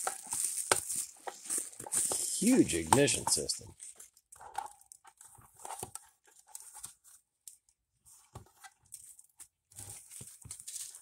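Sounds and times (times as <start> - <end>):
plastic packaging crinkling: 0.0 - 7.2, 8.9 - 11.0.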